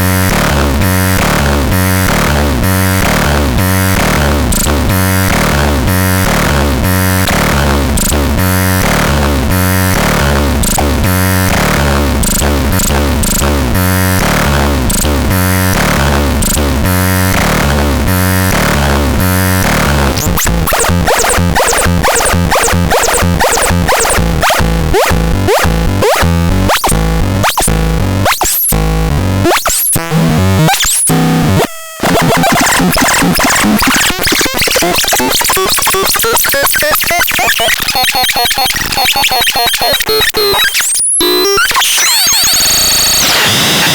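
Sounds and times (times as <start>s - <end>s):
glitchy clicks and pitch sweeps: 0.0s - 17.8s, 18.4s - 43.9s
stepped synth bass pattern: 0.0s - 42.5s.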